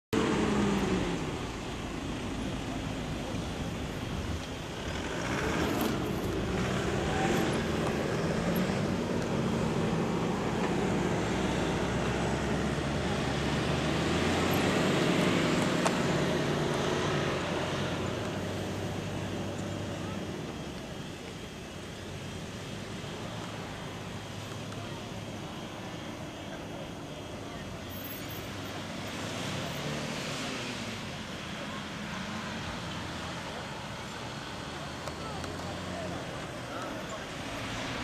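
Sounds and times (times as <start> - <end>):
car engine revving: 0.1 - 38.0.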